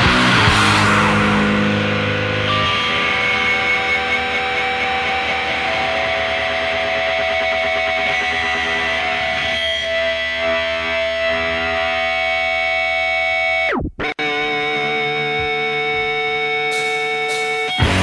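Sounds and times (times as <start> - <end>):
distorted electric guitar: 0.0 - 18.0.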